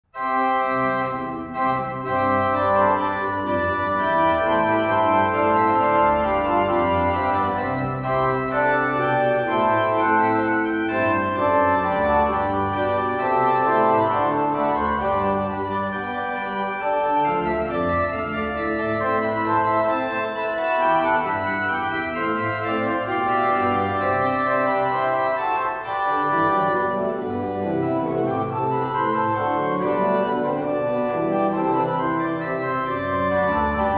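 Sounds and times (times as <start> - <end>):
pipe organ piece: 0.1 - 33.9.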